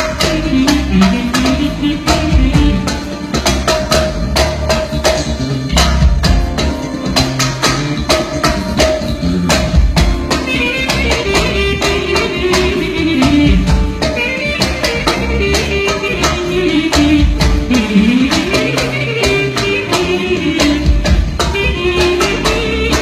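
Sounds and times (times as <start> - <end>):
drum kit beat: 0.0 - 23.0
live band music: 0.0 - 23.0.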